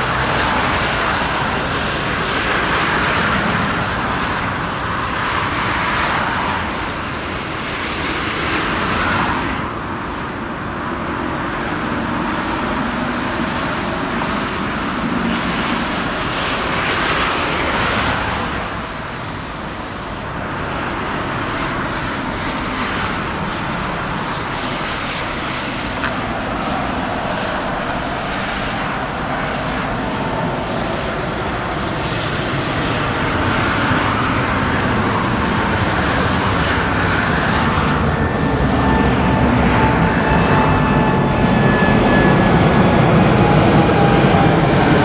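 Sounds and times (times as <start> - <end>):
jet airliner roar overhead: 0.0 - 45.0.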